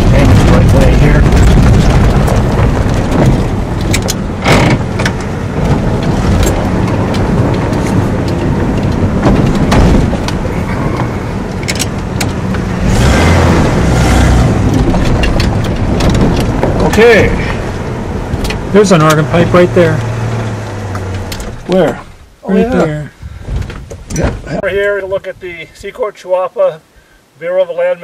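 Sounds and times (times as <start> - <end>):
vehicle engine rumble: 0.0 - 25.9.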